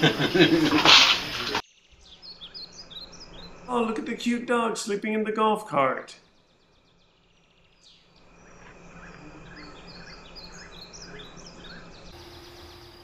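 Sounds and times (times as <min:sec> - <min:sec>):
background noise: 0:00.0 - 0:10.8
bird chirping: 0:00.0 - 0:13.0.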